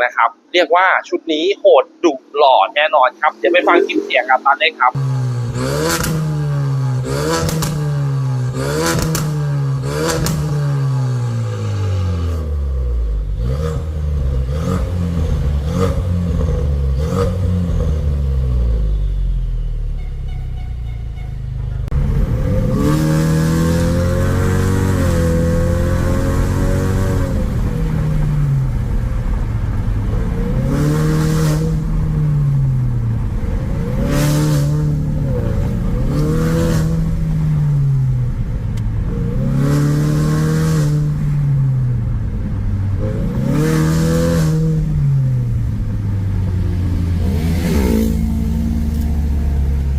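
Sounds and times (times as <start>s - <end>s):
car engine revving: 3.5s - 20.1s, 21.1s - 49.9s.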